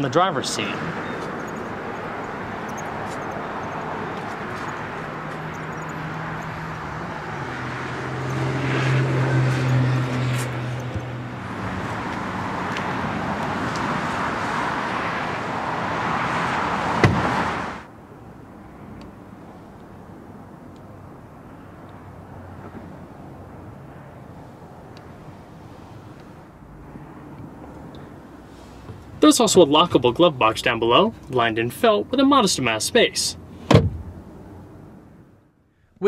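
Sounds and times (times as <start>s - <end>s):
car engine: 0.0s - 31.3s
road noise: 0.0s - 36.0s.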